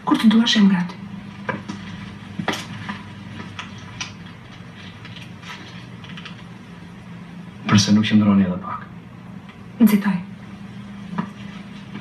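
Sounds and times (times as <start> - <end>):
film soundtrack hum and hiss: 0.0 - 12.0.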